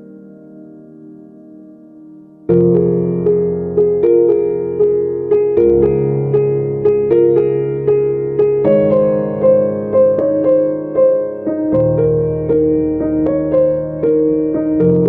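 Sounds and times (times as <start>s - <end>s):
slow sad piano music: 0.0s - 15.0s.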